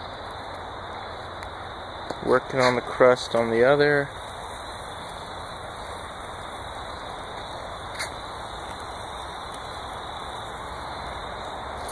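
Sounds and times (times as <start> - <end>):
steaks sizzling on grill: 0.0 - 11.9.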